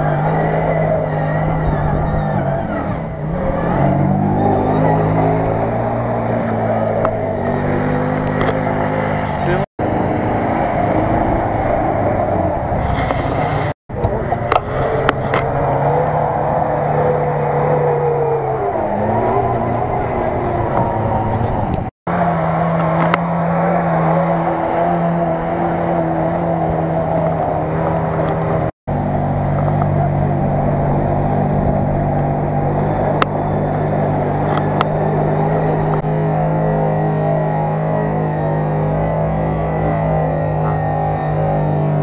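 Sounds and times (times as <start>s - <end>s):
off-road engines in mud: 0.0s - 42.0s.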